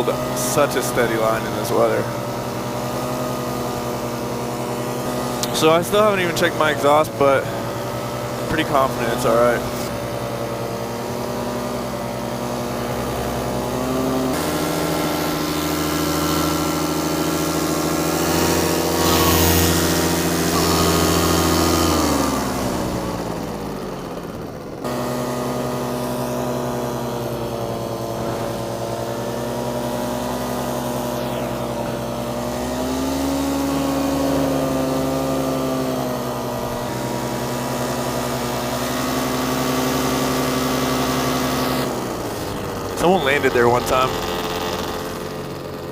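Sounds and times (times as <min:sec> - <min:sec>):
paramotor engine and propeller: 0:00.0 - 0:45.9.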